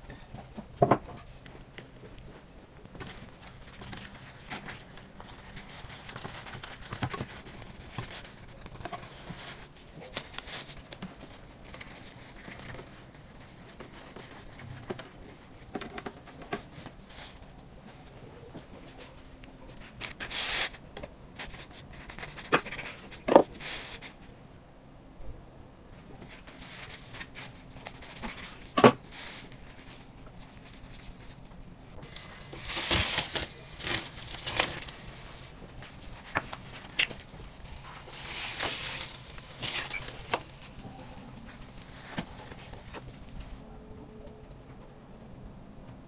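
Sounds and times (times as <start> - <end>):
flatbread rustling: 0.2 - 24.3, 26.2 - 43.6.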